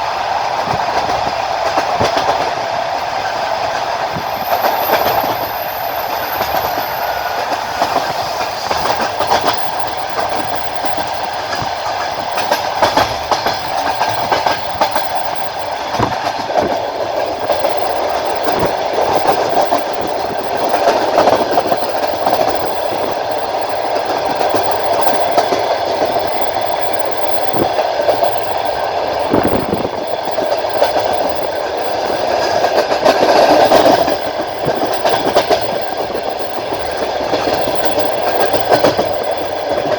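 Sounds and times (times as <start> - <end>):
train carriage rumbling on track: 0.0 - 39.9
wheels clacking over rail joints: 0.0 - 39.9.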